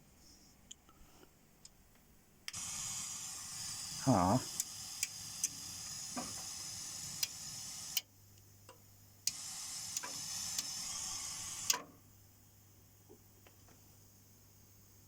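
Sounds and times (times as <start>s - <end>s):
faint steady hum: 0.0s - 15.0s
pink noise hiss through speakers: 0.0s - 15.0s.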